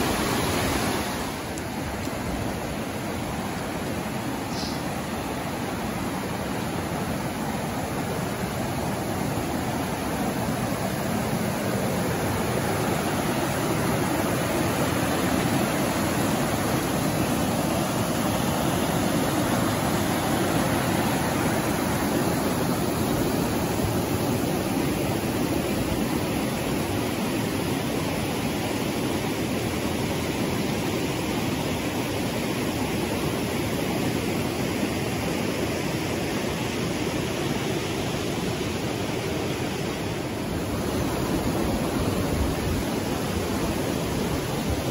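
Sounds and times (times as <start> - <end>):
floodwater rushing over logs: 0.0 - 44.9.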